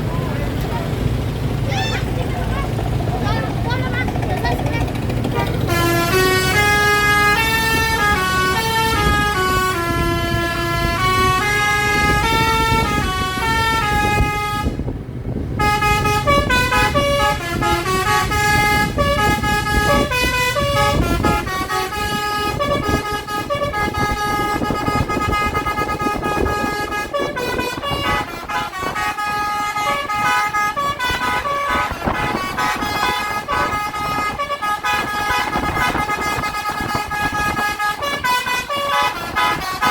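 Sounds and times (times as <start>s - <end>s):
engine and road rumble: 0.0s - 39.9s
bus multi-tone horn playing tune: 3.6s - 39.9s.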